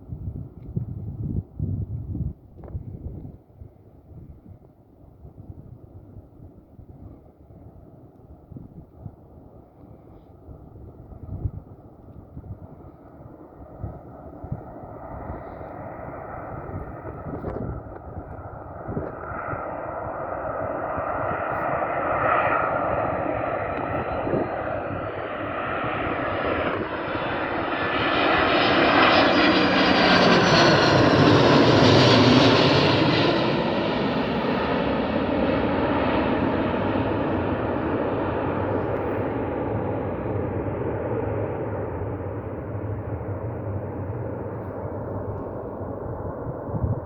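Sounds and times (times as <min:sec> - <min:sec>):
jet airliner flying past: 0:00.0 - 0:47.0.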